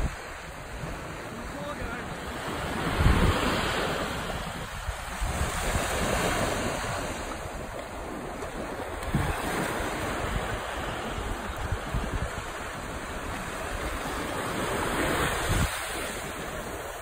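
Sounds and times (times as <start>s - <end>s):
small waves washing up beach: 0.0s - 17.0s
wind buffeting microphone: 0.0s - 17.0s.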